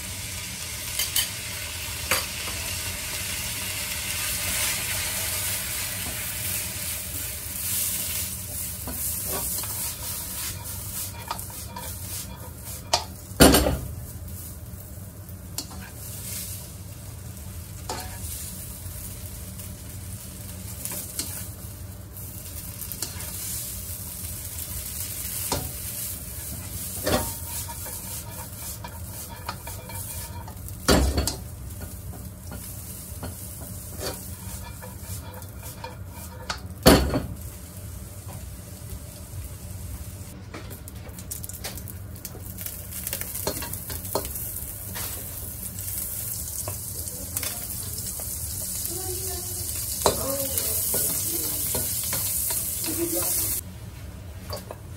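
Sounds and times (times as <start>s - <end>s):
noodles sizzling in a wok: 0.0s - 40.4s, 41.1s - 54.9s.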